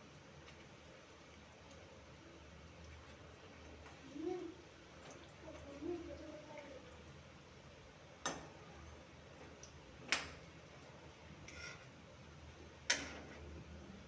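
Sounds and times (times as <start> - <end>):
oil frying hiss: 0.0 - 14.0.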